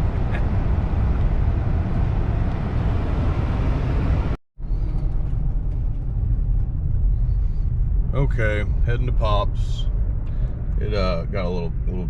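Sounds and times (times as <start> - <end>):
car road noise rumble: 0.0 - 12.0.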